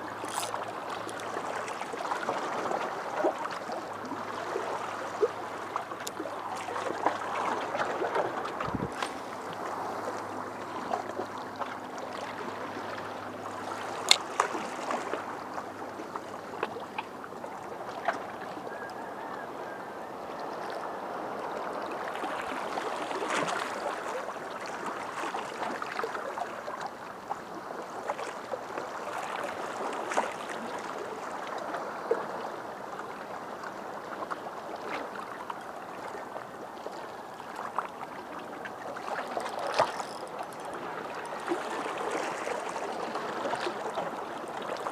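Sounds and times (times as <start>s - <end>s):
small waves lapping: 0.0s - 44.9s.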